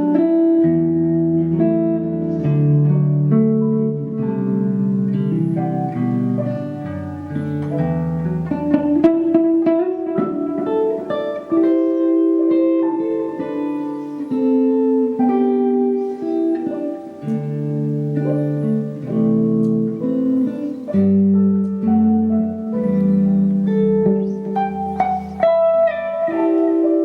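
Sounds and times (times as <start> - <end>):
band music with plucked guitar: 0.0 - 27.0.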